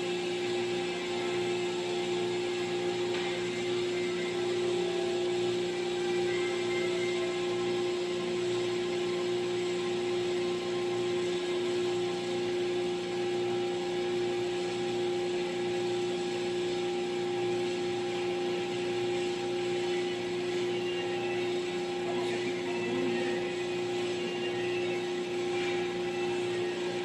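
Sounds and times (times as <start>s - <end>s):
press machine humming: 0.0s - 27.0s.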